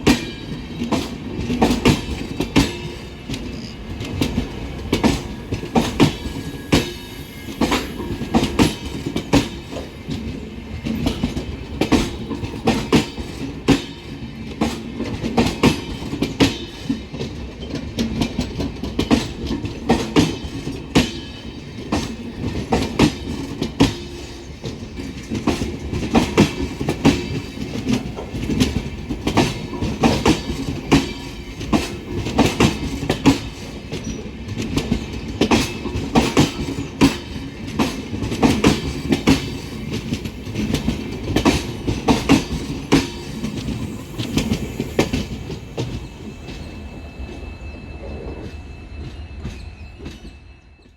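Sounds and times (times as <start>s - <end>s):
train wheels clacking over rail joints: 0.0s - 46.6s.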